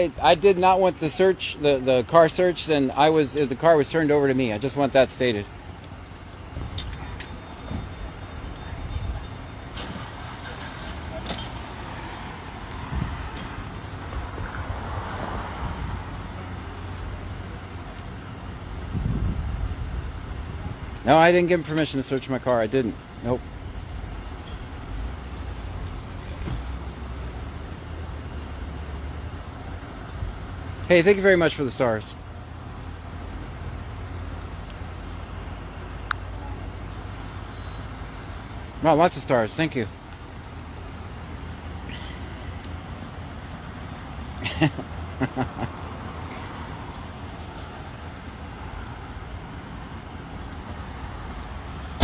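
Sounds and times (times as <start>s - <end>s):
road traffic rumble: 0.0s - 52.0s
vehicle engine hum: 0.0s - 52.0s.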